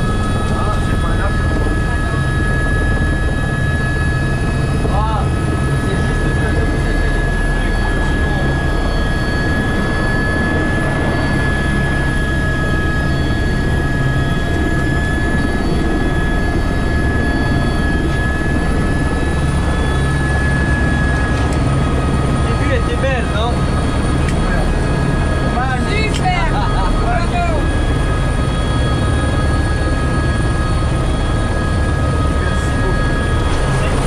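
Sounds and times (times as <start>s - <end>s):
helicopter rotor rumble: 0.0s - 34.0s
high turbine whine: 0.0s - 34.0s.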